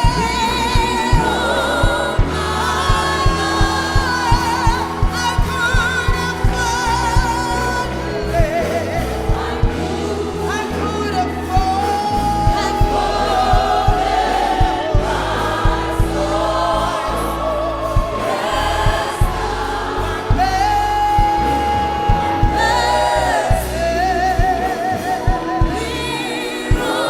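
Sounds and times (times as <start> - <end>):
band playing: 0.0 - 27.0
voices singing gospel: 0.0 - 27.0.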